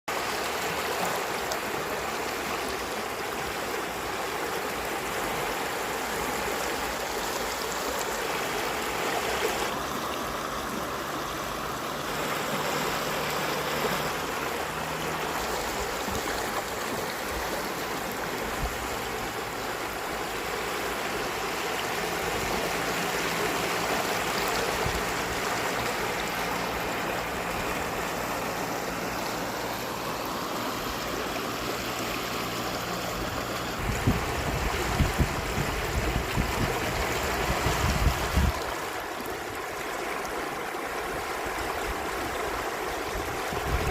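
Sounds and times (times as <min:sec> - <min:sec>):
floodwater rushing: 0:00.1 - 0:43.9.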